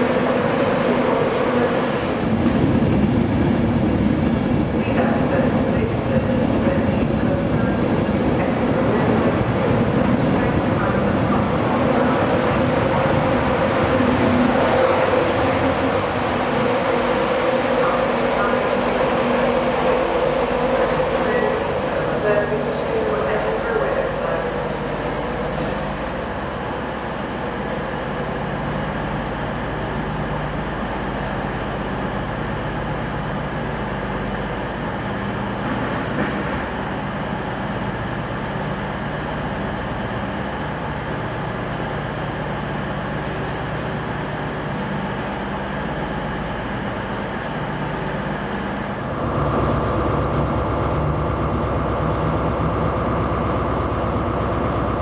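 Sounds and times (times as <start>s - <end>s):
diesel train drone with whine: 0.0s - 55.0s
electric train rumbling and humming: 0.0s - 55.0s.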